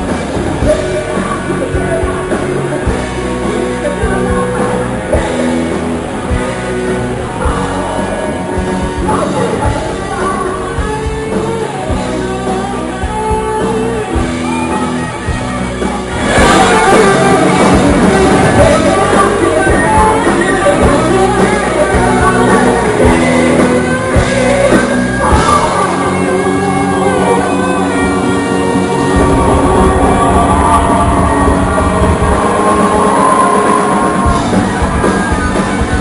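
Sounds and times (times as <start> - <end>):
metal band playing: 0.0 - 36.0.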